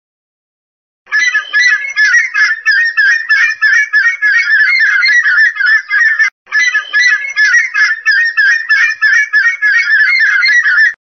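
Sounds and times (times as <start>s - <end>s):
ibis calling: 1.1s - 11.0s.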